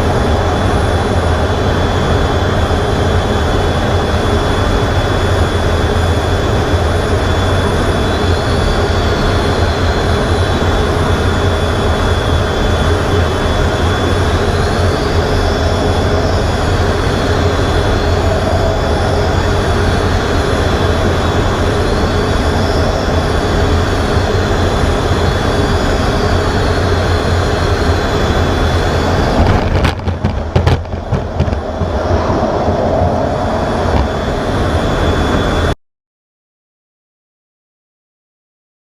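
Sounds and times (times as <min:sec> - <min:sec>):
jet aircraft rumble and whine: 0:00.0 - 0:35.8.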